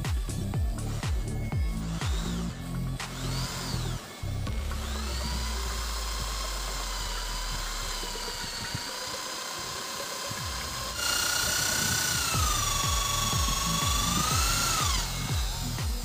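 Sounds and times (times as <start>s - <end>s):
electric drill boring into wood: 0.0s - 16.0s.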